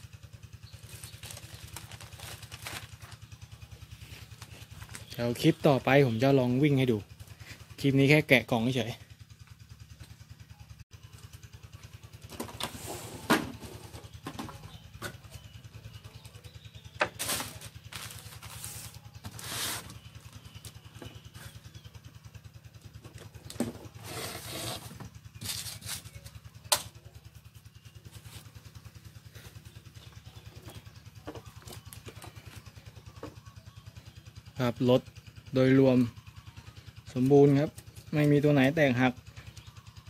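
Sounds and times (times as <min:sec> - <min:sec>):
rapidly pulsing low hum: 0:00.0 - 0:40.0.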